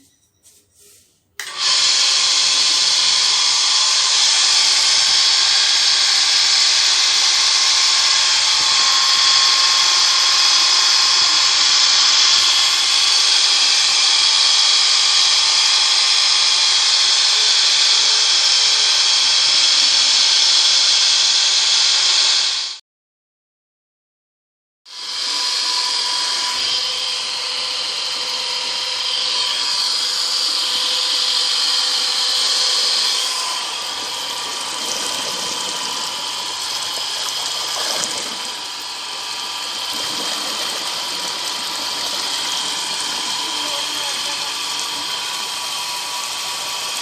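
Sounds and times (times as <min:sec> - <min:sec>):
electric motor running: 0:01.4 - 0:22.8, 0:25.0 - 0:47.0.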